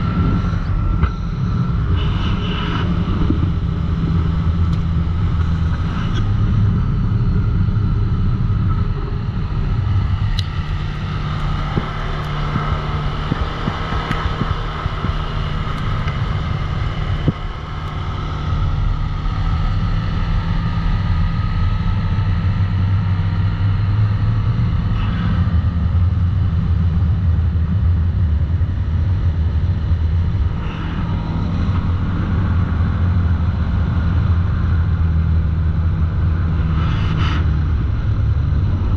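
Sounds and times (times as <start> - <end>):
atv engine running: 0.0 - 36.7
wind on microphone: 0.0 - 38.9.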